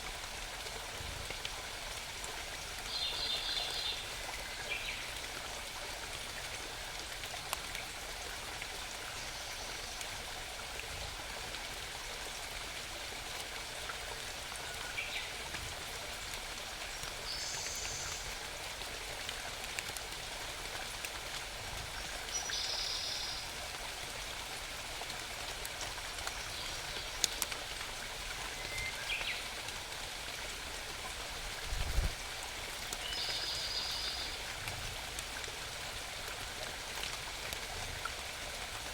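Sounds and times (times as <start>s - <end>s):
brook babbling: 0.0s - 38.9s.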